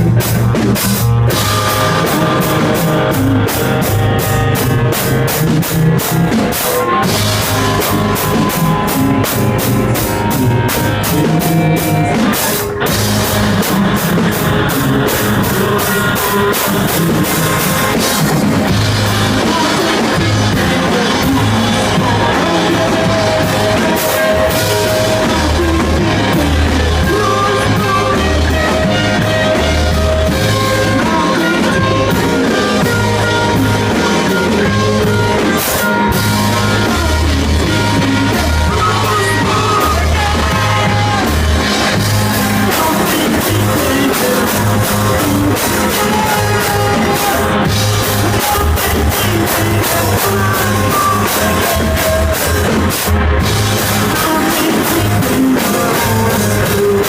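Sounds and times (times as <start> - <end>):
person singing: 0.0 - 57.0
pulsing bass line: 0.0 - 57.0
rock band playing live: 0.0 - 57.0.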